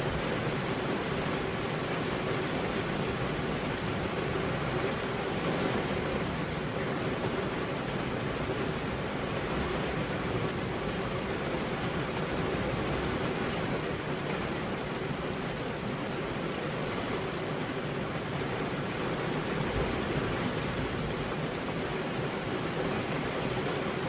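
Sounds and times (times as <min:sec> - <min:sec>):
heavy rain on a road: 0:00.0 - 0:24.0.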